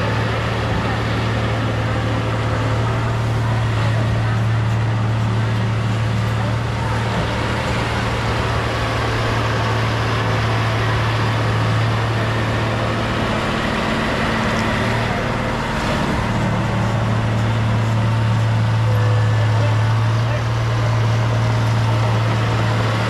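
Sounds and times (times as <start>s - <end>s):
bulldozer engine droning: 0.0s - 23.0s.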